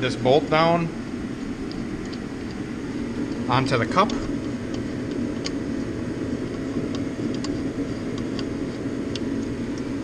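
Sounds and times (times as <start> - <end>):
machine-like background noise: 0.0 - 10.0.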